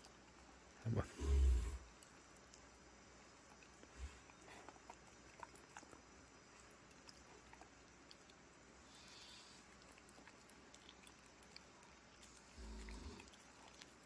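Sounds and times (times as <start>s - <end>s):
dog chewing: 1.8s - 14.0s.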